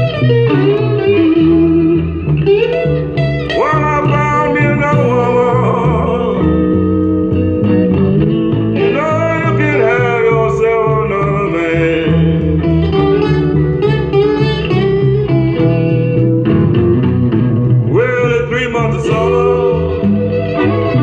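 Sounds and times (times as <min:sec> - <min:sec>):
song with singing and guitar: 0:00.0 - 0:21.0.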